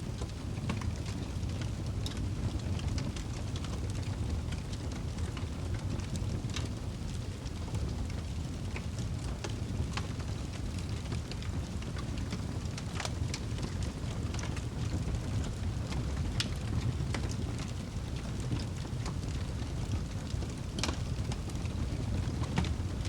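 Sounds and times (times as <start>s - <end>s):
fire crackles and pops: 0.0s - 23.0s
low rumble of flames: 0.0s - 23.0s.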